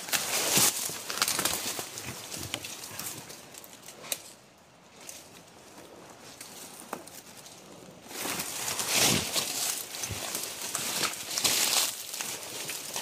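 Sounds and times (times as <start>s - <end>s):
leaves and undergrowth rustling: 0.0s - 13.0s.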